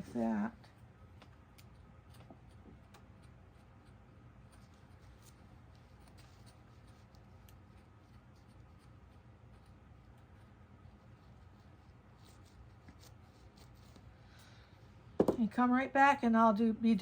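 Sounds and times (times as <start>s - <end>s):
comb scratching through fur: 0.0s - 15.7s
low room hum: 0.0s - 17.0s.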